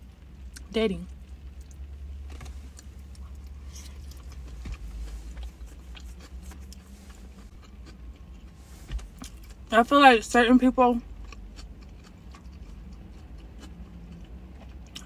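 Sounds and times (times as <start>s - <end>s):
steady low hum: 0.0s - 15.0s
person chewing food: 1.4s - 9.7s, 11.0s - 15.0s.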